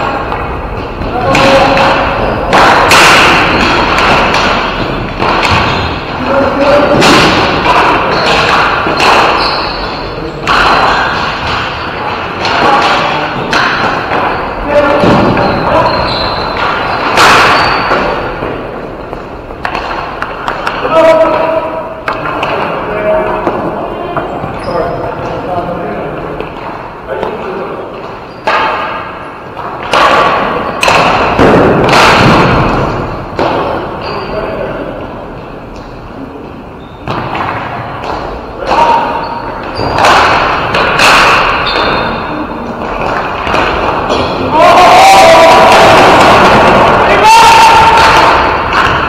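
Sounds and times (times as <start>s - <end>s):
sticks and ball hitting rink boards: 0.0s - 36.0s, 37.0s - 49.0s.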